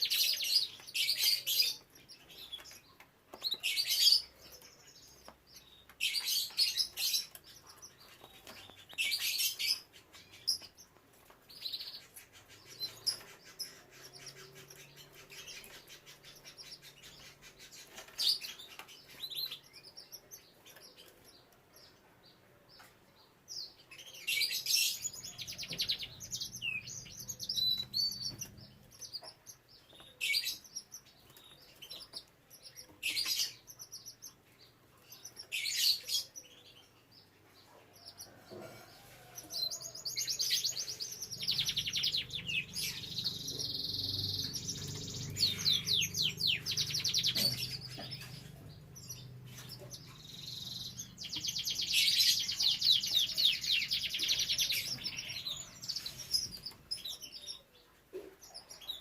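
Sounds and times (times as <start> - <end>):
canaries chirping: 0.0 - 59.0.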